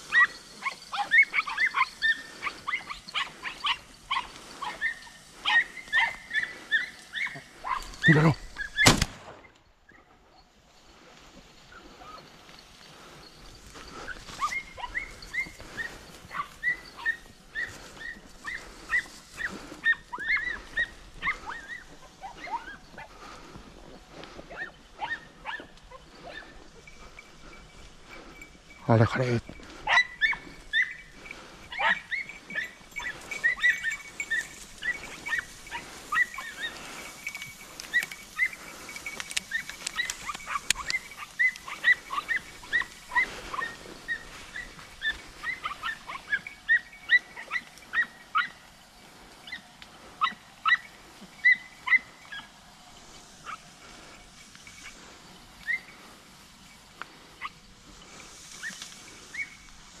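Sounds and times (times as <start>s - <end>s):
hounds yelping: 0.0s - 9.0s, 9.8s - 60.0s.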